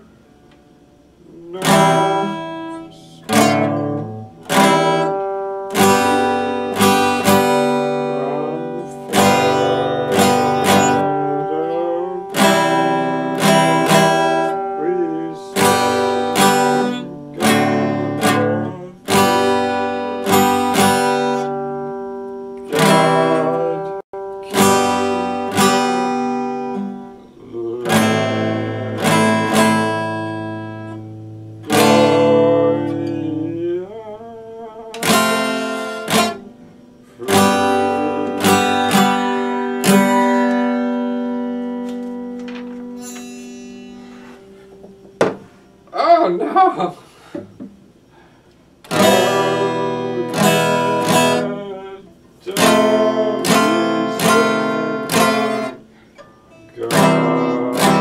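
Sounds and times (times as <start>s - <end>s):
acoustic guitar chords strummed: 0.0s - 58.0s.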